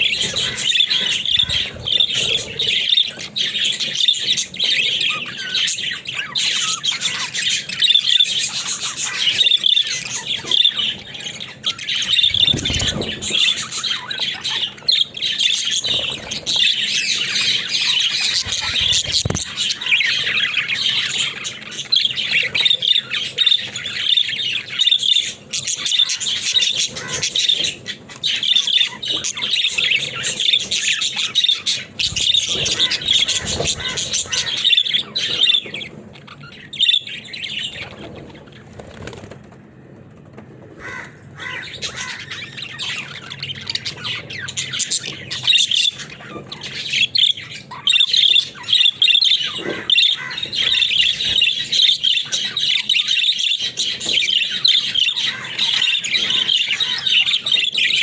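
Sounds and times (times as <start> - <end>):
budgerigars chirping: 0.0 - 39.4, 40.8 - 58.0.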